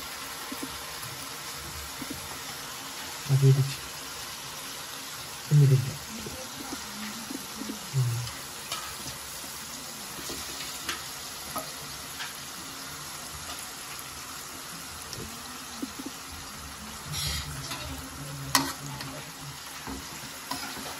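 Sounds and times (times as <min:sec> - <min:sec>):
chicken sizzling in oil: 0:00.0 - 0:20.9.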